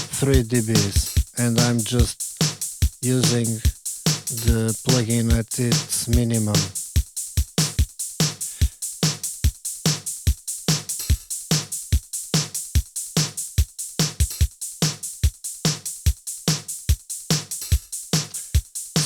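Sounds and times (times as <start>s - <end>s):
drum and bass drum loop: 0.0s - 19.0s.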